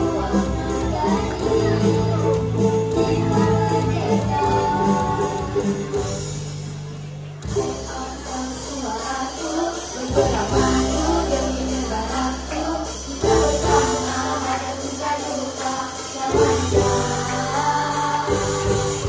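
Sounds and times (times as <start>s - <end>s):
boy and woman singing: 0.0s - 6.0s, 7.5s - 19.0s
band accompaniment with beat: 0.0s - 19.0s.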